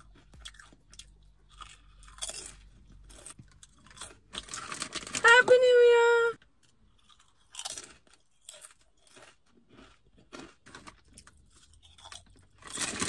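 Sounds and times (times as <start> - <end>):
potato chips crunching: 0.0 - 5.4, 6.6 - 13.0.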